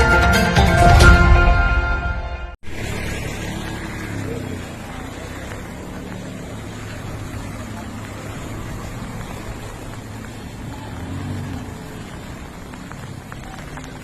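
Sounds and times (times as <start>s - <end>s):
heavy rain: 2.6s - 14.0s
vehicle engines humming: 2.6s - 14.0s.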